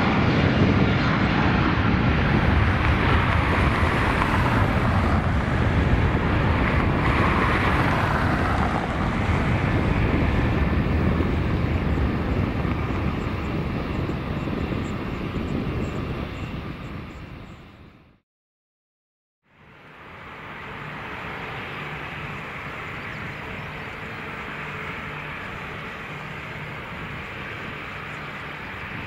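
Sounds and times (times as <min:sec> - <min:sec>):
jet engines roaring: 0:00.0 - 0:18.1, 0:19.5 - 0:29.0.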